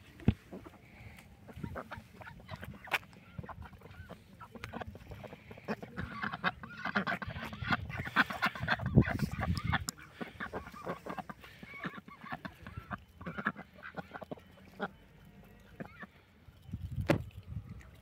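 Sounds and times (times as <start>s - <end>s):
ducks quacking: 0.0s - 16.6s.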